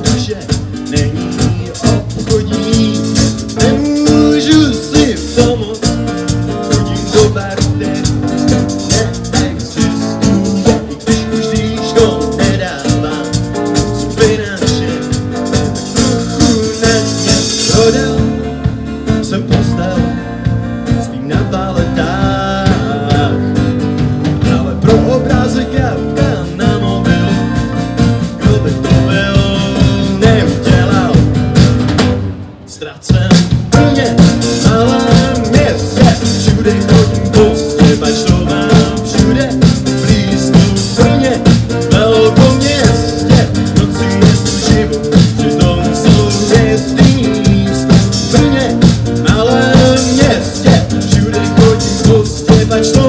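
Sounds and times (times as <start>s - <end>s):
acoustic guitar: 0.0s - 53.0s
drum kit: 0.0s - 53.0s
electric bass: 0.0s - 53.0s.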